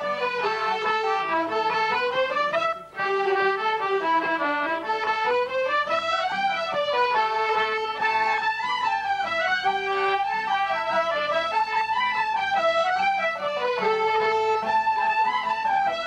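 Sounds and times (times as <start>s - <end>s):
traditional folk tune ensemble: 0.0s - 16.0s.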